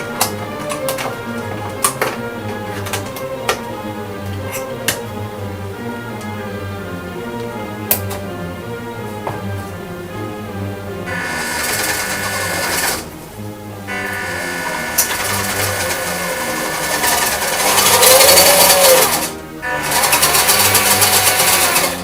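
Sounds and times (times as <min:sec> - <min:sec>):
electric motor and gearbox whirring: 0:00.0 - 0:07.0, 0:11.1 - 0:22.0.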